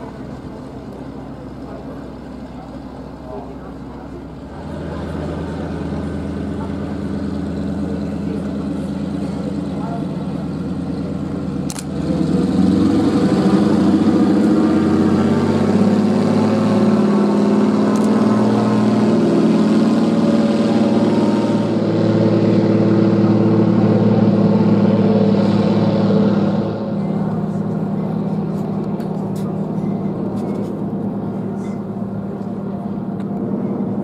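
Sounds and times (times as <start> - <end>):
plane engine and propeller roaring: 0.0 - 34.0.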